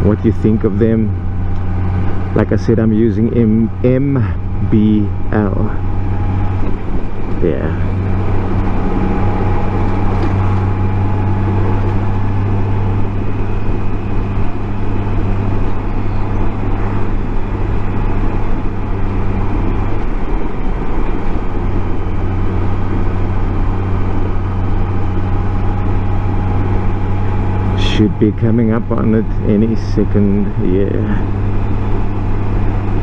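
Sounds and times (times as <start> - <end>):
motorcycle engine hum: 0.0 - 33.0
wind and road noise: 0.0 - 33.0.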